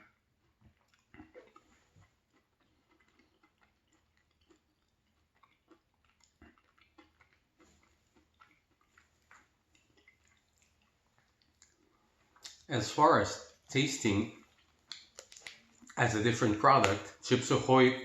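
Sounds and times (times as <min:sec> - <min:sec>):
chewing crunchy cookie: 0:00.0 - 0:17.3.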